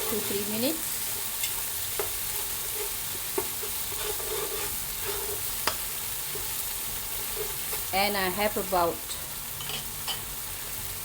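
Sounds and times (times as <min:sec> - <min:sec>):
curry paste sizzling in oil: 0:00.0 - 0:11.0.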